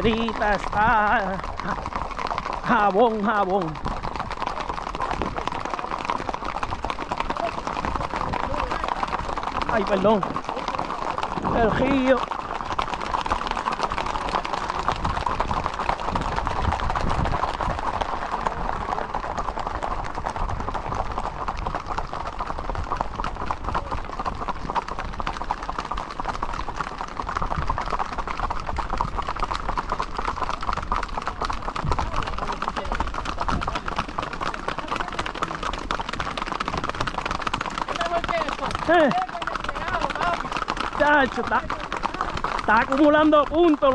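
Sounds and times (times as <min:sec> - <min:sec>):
horse hooves on asphalt: 0:00.0 - 0:43.9.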